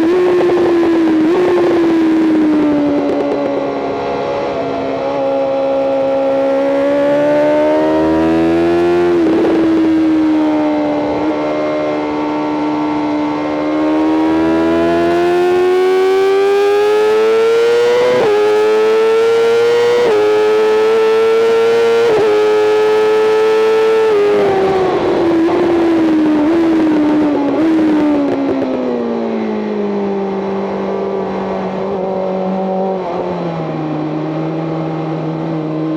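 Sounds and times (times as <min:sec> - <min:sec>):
motorcycle engine revving high: 0:00.0 - 0:35.9
quick gear upshifts: 0:00.0 - 0:35.9.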